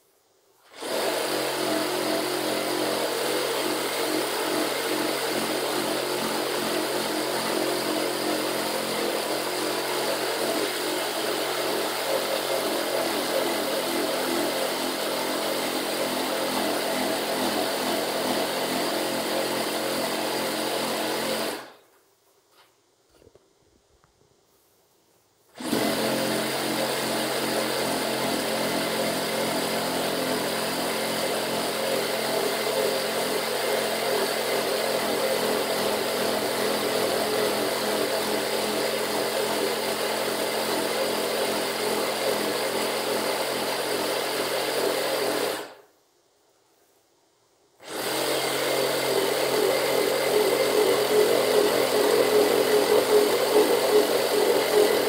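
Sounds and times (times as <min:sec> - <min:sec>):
reciprocating saw cutting wood: 0:00.7 - 0:21.8, 0:25.6 - 0:45.8, 0:47.8 - 0:55.0.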